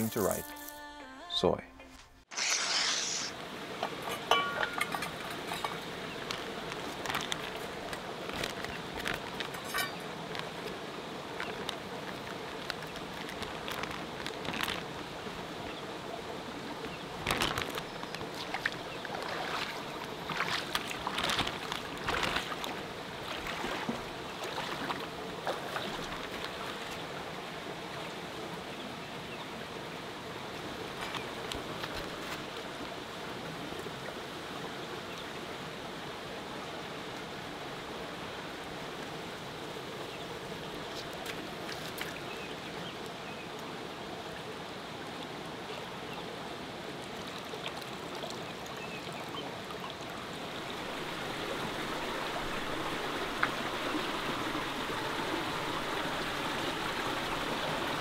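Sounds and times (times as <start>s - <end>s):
river water running: 2.2s - 58.0s.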